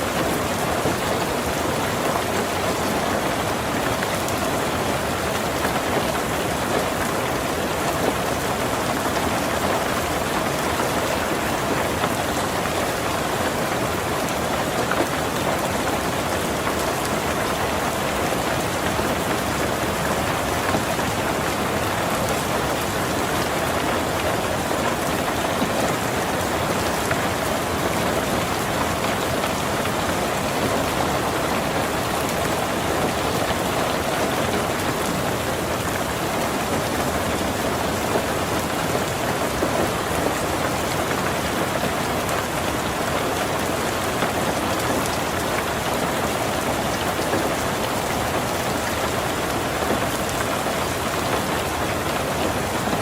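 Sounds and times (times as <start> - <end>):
heavy rain on a tin roof: 0.0 - 53.0.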